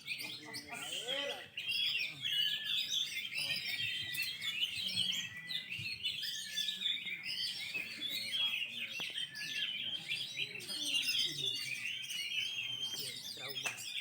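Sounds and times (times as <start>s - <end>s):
birds singing whistles and trills: 0.0s - 14.0s.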